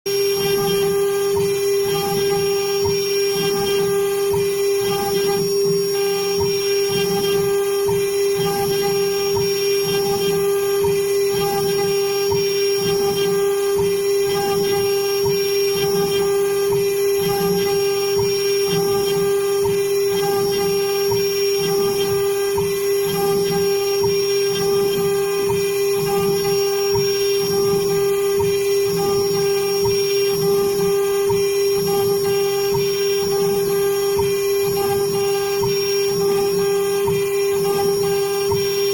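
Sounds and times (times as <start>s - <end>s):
power tool high whine: 0.1s - 38.9s.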